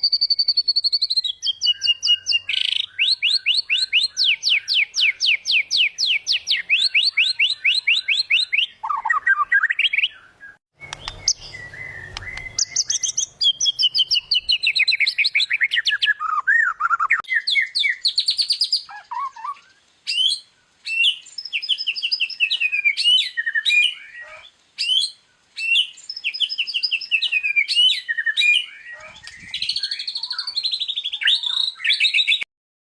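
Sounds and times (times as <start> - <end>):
bird singing trills and whistles: 0.0 - 32.5.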